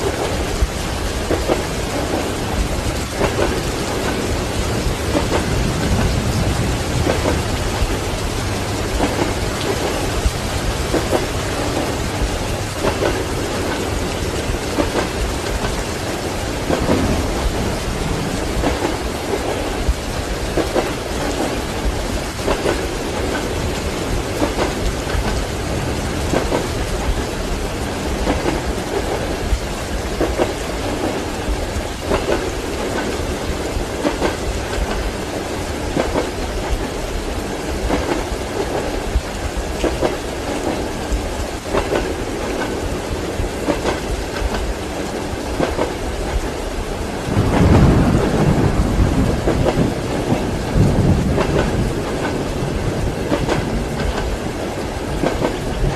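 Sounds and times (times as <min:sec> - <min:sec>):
rain falling: 0:00.0 - 0:55.9
train rumbling: 0:00.0 - 0:55.9
train wheels knocking on rail joints: 0:00.0 - 0:55.9.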